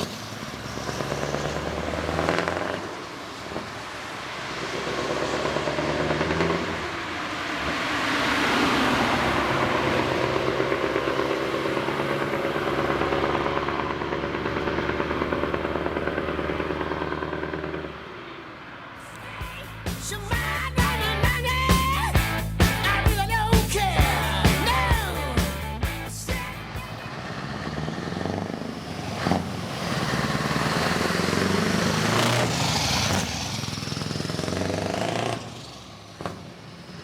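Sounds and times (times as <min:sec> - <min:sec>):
diesel truck engine under load: 0:00.0 - 0:37.0.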